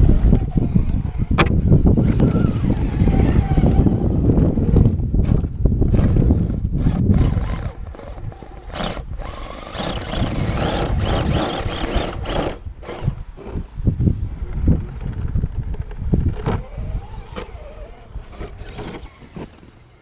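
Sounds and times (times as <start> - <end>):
wind rumble on microphone: 0.0 - 19.6
electric motor and gears whining: 0.0 - 20.0.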